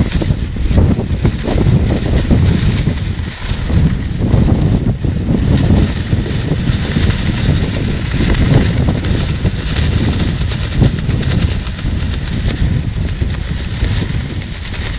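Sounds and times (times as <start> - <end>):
plastic rainsuit flapping: 0.0 - 14.9
wind rumbling on microphone: 0.0 - 14.9.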